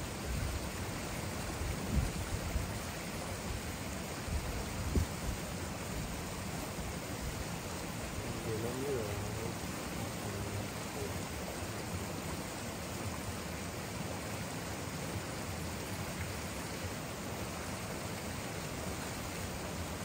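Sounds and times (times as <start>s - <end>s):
stream of running water: 0.0s - 20.0s.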